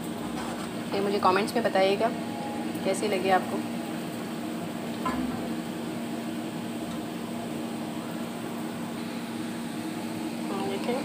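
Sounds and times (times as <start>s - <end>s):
fries sizzling in hot oil: 0.0s - 11.0s.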